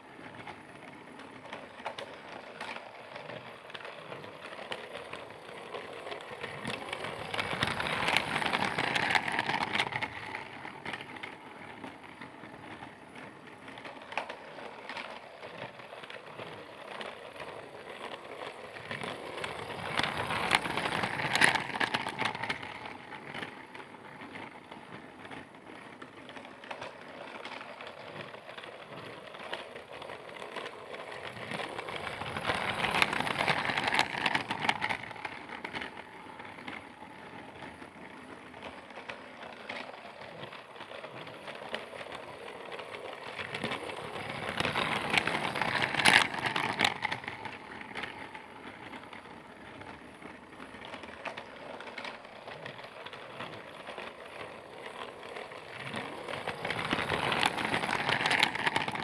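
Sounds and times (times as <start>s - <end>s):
toy train clattering: 0.0s - 59.0s.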